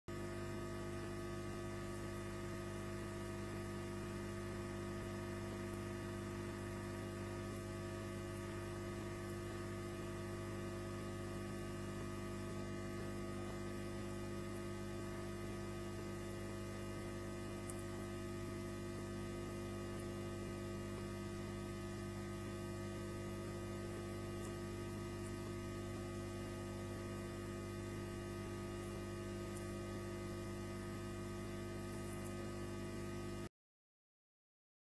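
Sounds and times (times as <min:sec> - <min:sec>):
electrical mains hum: 0:00.1 - 0:33.5.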